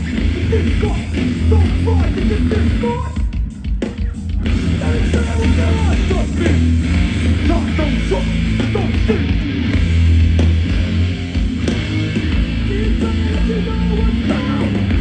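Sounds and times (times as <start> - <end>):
live punk band playing: 0.0 - 15.0.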